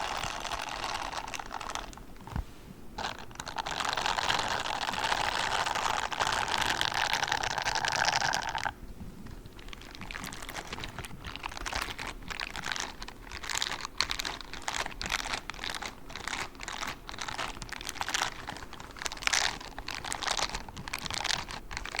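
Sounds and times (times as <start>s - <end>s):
rubber gloves scratching: 0.0s - 22.0s.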